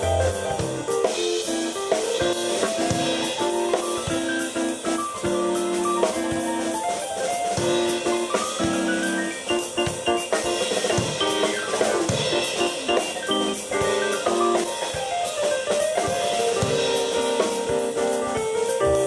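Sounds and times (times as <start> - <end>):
drum beat with cymbals: 0.0 - 19.0
keyboard chords: 0.0 - 19.0.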